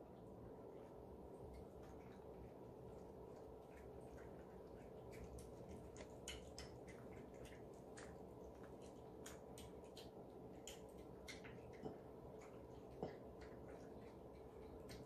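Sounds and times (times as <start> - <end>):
cats chewing and licking: 0.0 - 15.0.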